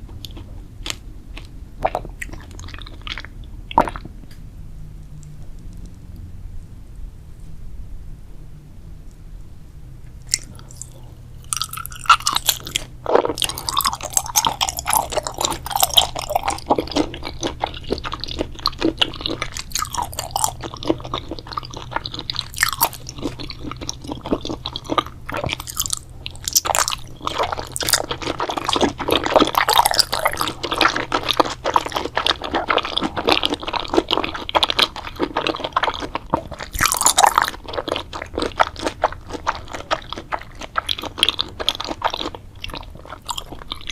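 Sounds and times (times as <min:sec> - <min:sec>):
chewing crunchy food: 0:00.0 - 0:04.4, 0:10.2 - 0:43.9.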